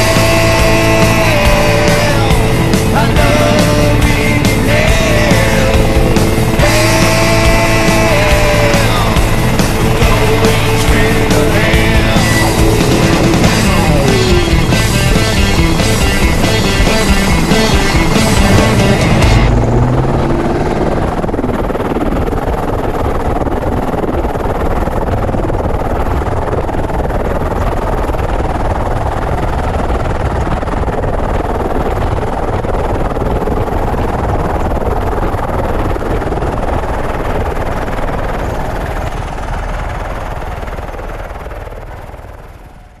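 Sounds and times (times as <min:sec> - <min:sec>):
helicopter rushing noise: 0:00.0 - 0:43.0.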